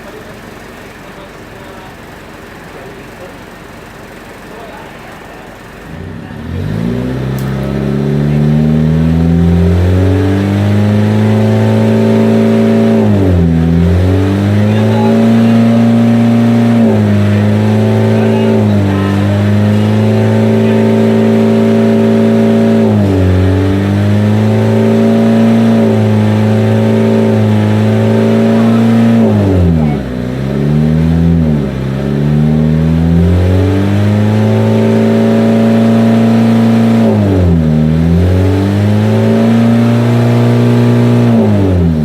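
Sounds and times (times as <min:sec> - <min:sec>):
diesel engine revving: 0:00.0 - 0:42.0.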